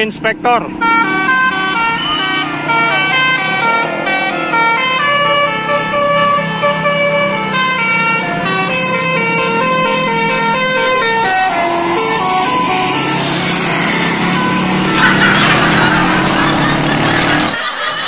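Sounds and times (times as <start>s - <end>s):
bus air horn playing a tune: 0.8s - 16.8s.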